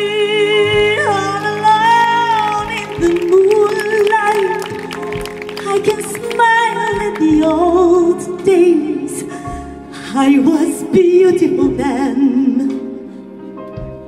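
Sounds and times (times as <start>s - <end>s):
woman singing: 0.0s - 13.1s
symphony orchestra playing: 0.0s - 14.0s.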